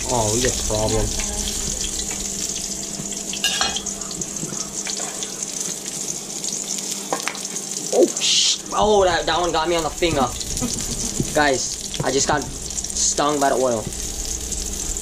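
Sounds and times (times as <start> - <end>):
patties sizzling in hot oil: 0.0 - 15.0.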